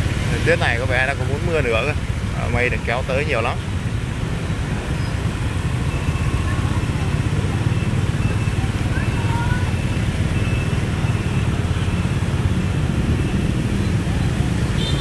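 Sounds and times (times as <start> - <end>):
scooter engines rumbling: 0.0 - 15.0
tyres hissing on wet asphalt: 0.0 - 15.0.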